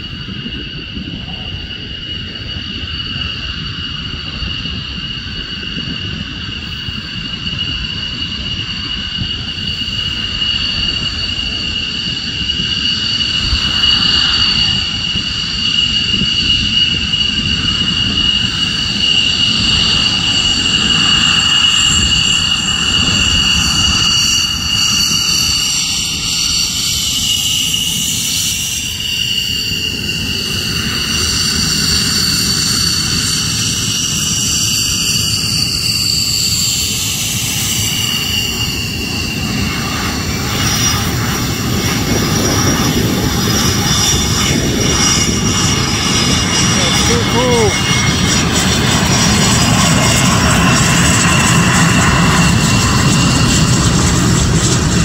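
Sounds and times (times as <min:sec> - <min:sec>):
jet engines whining and rumbling: 0:00.0 - 0:55.0.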